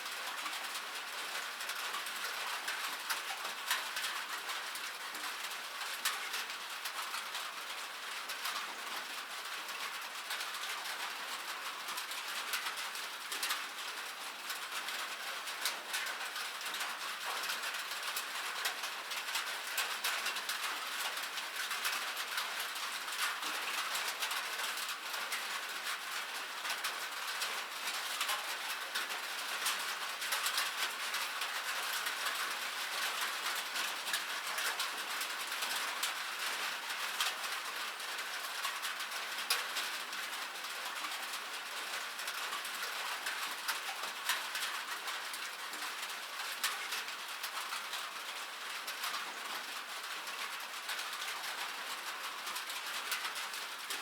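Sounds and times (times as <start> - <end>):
rain on metal: 0.0 - 54.0.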